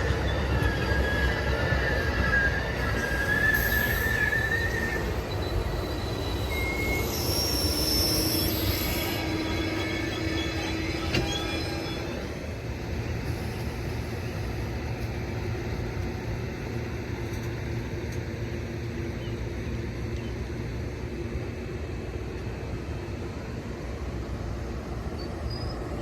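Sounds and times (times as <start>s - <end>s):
train cars rumbling by: 0.0s - 26.0s
train wheels squealing on rail: 0.0s - 26.0s.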